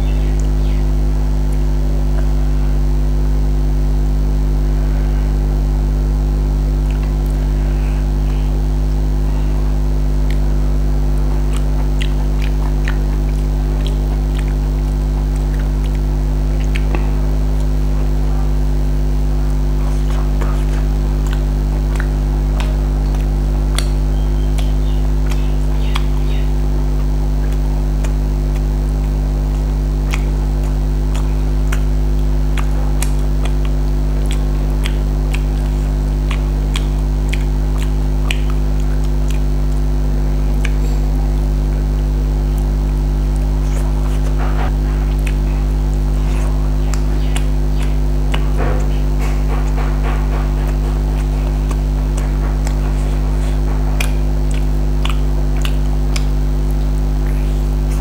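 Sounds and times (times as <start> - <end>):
low hum: 0.0 - 58.0
person chewing with mouth clicks: 0.0 - 58.0.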